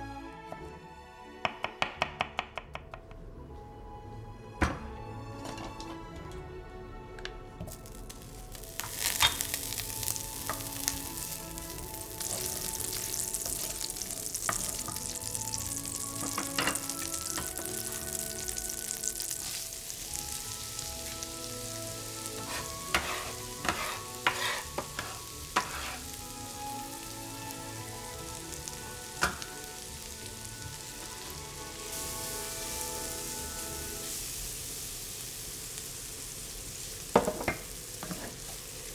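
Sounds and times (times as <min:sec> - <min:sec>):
food sizzling in a pan: 0:07.6 - 0:38.9.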